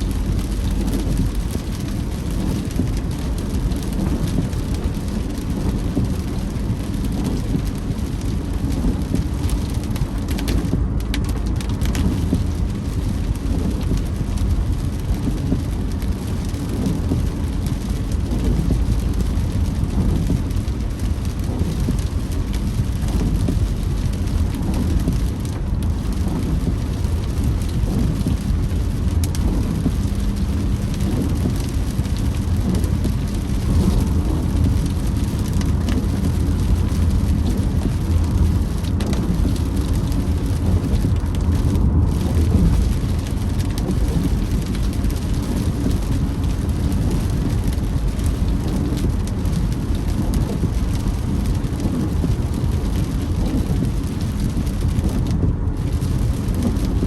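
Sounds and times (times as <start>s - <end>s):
rain on a moving car: 0.0s - 57.0s
raindrops tapping: 0.0s - 57.0s
road and tyre noise: 0.0s - 57.0s.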